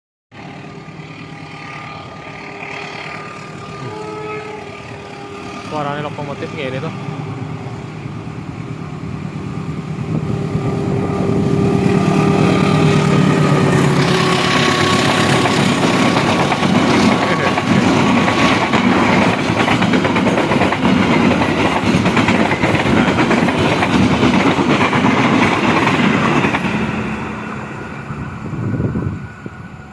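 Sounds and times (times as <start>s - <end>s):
locomotive humming: 0.3s - 29.9s
train wheels on rails: 0.4s - 29.9s.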